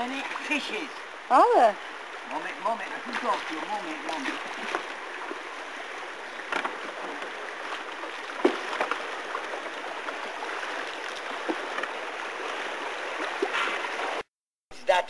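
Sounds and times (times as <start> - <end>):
river water rushing: 0.0 - 14.2.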